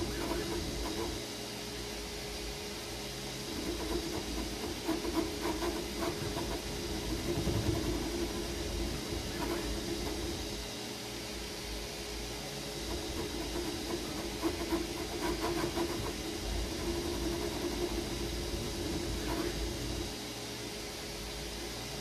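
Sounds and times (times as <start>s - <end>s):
printer mechanical hum: 0.0s - 22.0s.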